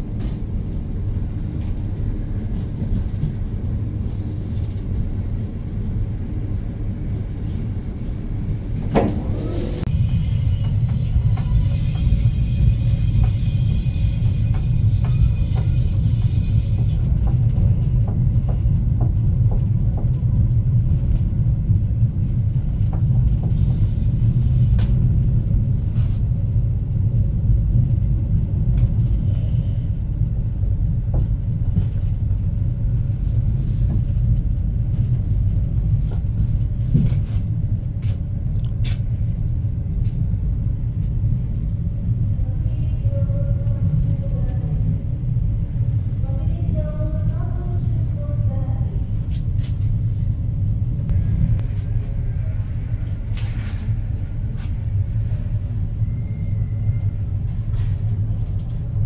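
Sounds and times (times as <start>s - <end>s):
train running low rumble: 0.0s - 59.0s.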